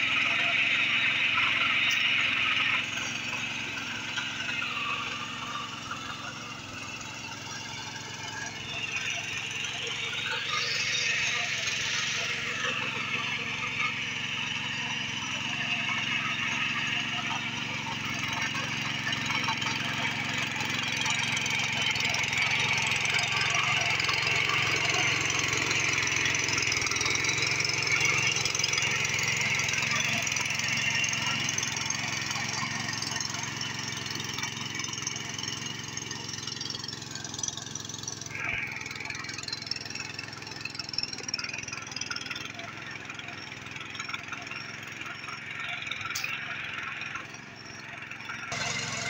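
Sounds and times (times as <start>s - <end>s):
tiller engine running: 0.0s - 49.0s
tines churning wet soil: 0.0s - 49.0s.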